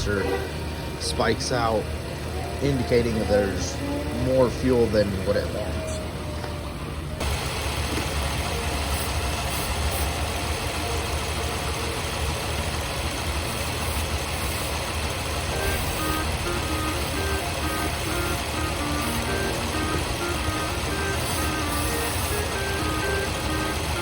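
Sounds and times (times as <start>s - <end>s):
misfiring engine idling: 0.0s - 24.0s.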